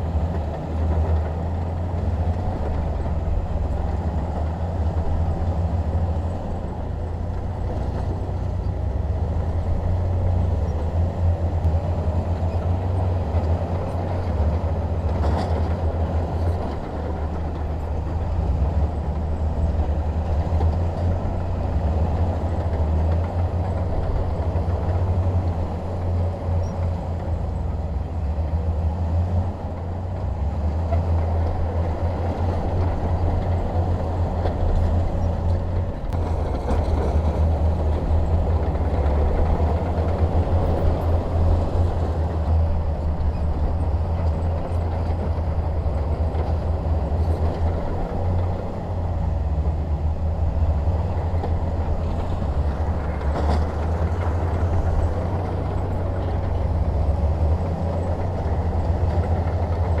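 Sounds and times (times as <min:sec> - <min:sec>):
bulldozer diesel engine droning: 0:00.0 - 1:00.0.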